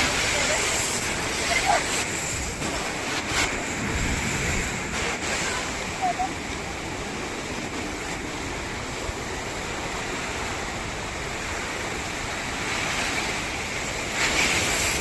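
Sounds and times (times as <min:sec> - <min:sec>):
surf washing onto beach: 0:00.0 - 0:15.0
wave breaking: 0:00.0 - 0:15.0.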